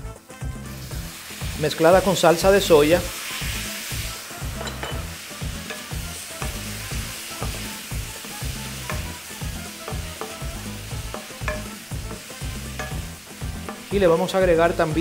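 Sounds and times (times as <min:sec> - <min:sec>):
food sizzling in a frying pan: 0:00.2 - 0:15.0.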